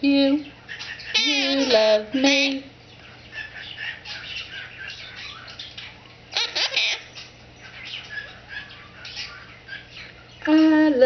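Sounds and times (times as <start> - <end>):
parrot chattering: 0.4 - 10.5
parrot squawk: 0.6 - 10.4.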